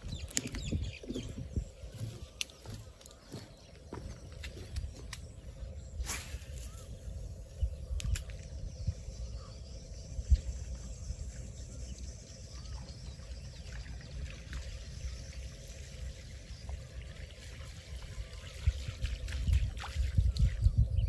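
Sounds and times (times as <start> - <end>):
water trickling and lapping: 0.0 - 7.4, 10.4 - 21.0.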